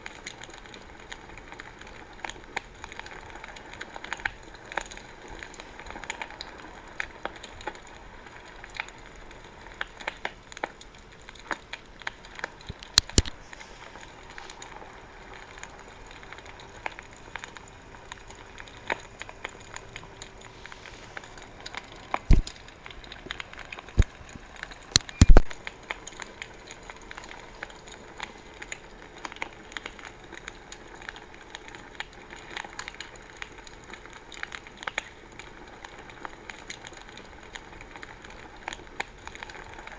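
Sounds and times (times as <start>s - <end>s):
fire popping: 0.0s - 39.9s
wood bonfire crackling: 0.0s - 39.9s.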